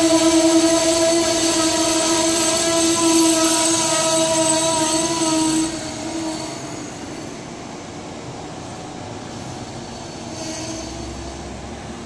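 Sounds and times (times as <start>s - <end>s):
high metallic squeal of train wheels: 0.0s - 7.9s, 9.2s - 12.0s
rumble of passing train cars: 0.0s - 12.0s.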